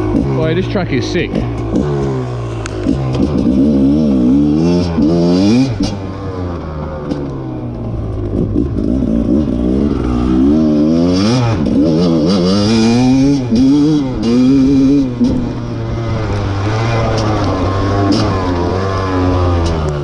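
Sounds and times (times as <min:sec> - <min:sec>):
two-stroke motorbike engine revving: 0:00.0 - 0:20.0.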